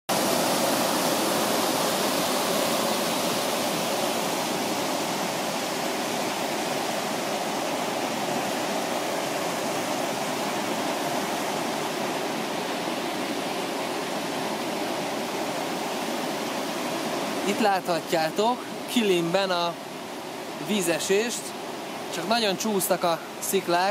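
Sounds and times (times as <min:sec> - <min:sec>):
waterfall rushing over rocks: 0:00.1 - 0:23.9.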